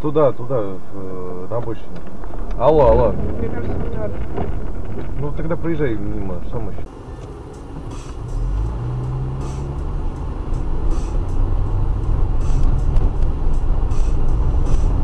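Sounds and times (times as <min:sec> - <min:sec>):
car driving cabin rumble: 0:00.0 - 0:15.0.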